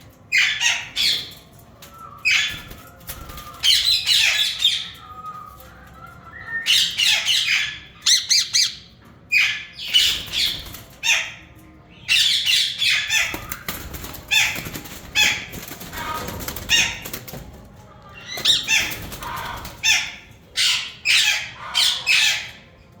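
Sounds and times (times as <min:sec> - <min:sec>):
parakeets squawking: 0:00.3 - 0:01.5, 0:02.2 - 0:05.1, 0:06.4 - 0:17.4, 0:18.1 - 0:22.8.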